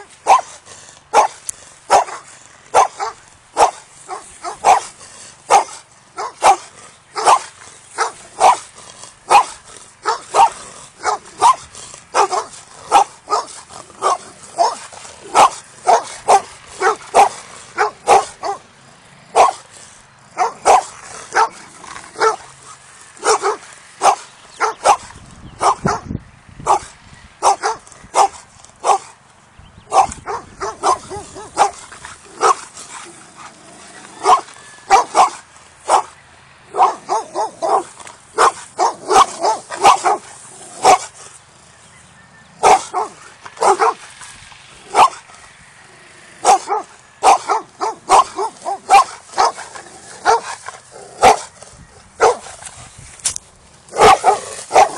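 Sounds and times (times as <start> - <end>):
dogs barking: 0.0 - 29.2, 29.9 - 41.4, 42.6 - 44.1, 44.8 - 45.3, 46.4 - 51.6, 52.2 - 52.7, 53.9 - 54.9.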